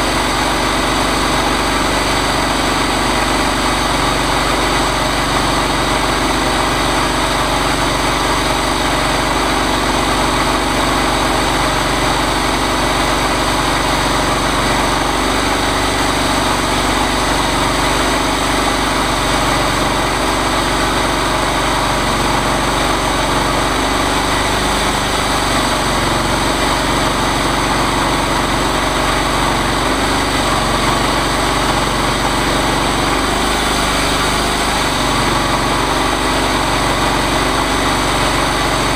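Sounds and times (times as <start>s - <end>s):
chainsaw engine running: 0.0s - 38.9s.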